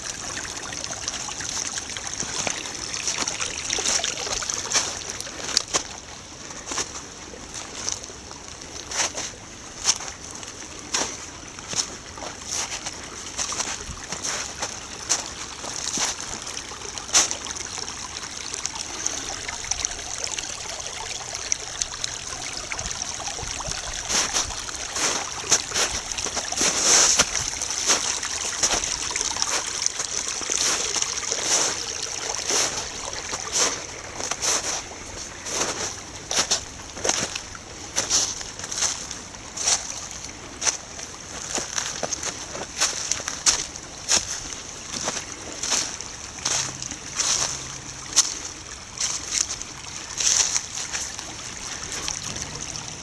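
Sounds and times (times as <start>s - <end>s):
sharp clicks and splashy ticks: 0.0s - 6.1s, 7.6s - 53.0s
stream trickling and babbling: 0.0s - 53.0s.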